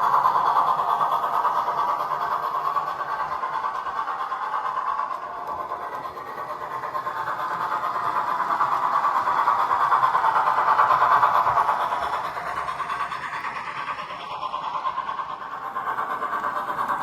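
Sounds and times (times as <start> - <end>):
model train running on track: 0.0 - 17.0.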